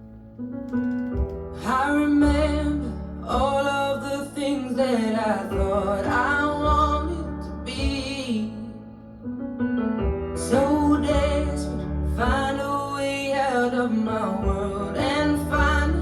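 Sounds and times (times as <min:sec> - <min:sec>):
slow song with singing: 0:01.5 - 0:09.2, 0:10.4 - 0:16.0.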